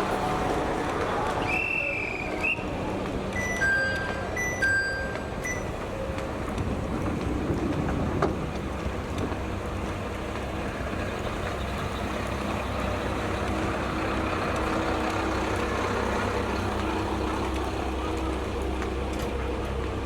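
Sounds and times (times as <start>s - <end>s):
diesel railcar engine rumbling: 0.0s - 20.0s.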